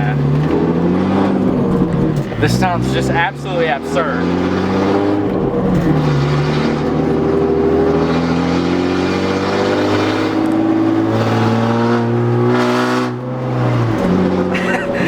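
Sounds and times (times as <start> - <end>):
loud car exhaust while driving: 0.0 - 15.0.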